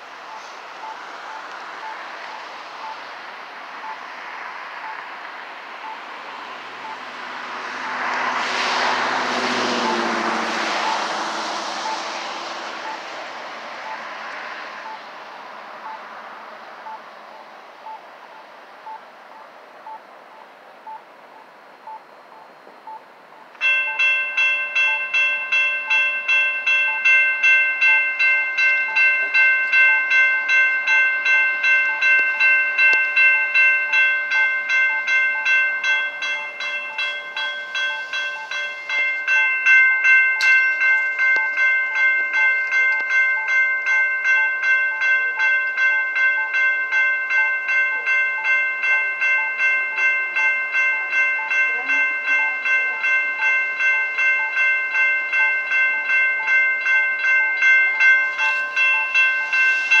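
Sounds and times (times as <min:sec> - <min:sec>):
railroad crossing bell ringing: 0:00.0 - 1:00.0.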